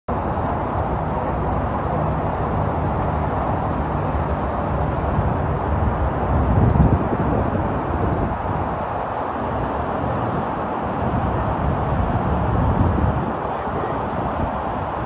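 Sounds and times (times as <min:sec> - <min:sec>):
distant highway traffic hum: 0:00.1 - 0:15.0.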